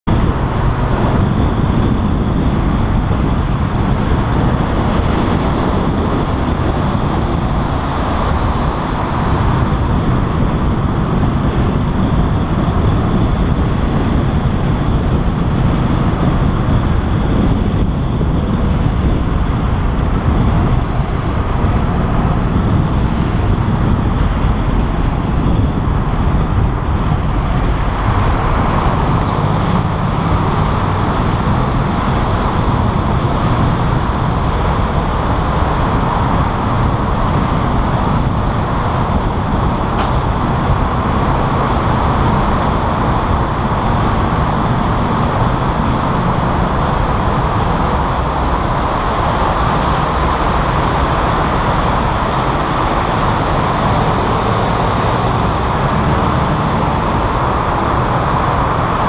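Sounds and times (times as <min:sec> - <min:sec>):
surrounding traffic: 0:00.0 - 0:59.0.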